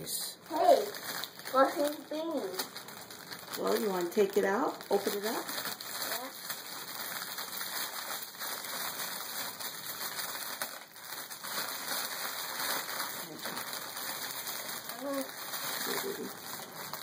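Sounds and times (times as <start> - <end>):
cellophane crinkling and rustling: 0.4 - 17.0.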